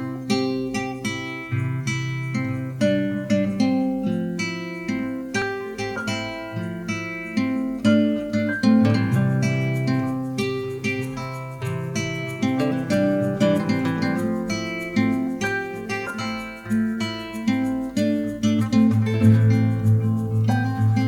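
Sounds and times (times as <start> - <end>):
plucked acoustic guitar music: 0.0 - 21.0.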